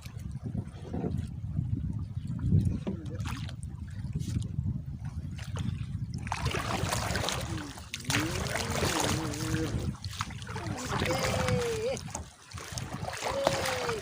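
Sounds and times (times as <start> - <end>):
water sloshing against boat hull: 0.0 - 14.0.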